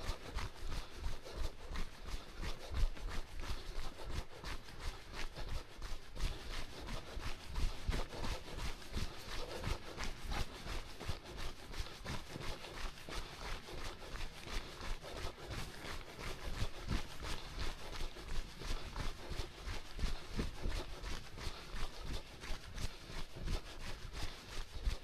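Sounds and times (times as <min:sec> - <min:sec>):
running footsteps on dirt: 0:00.0 - 0:25.0.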